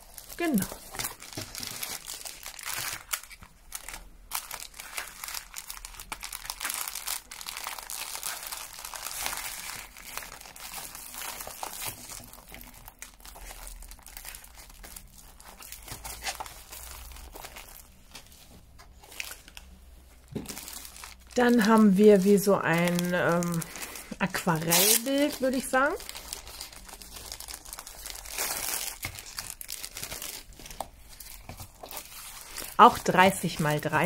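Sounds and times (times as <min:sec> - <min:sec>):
plastic packaging crinkling: 0:00.0 - 0:34.0.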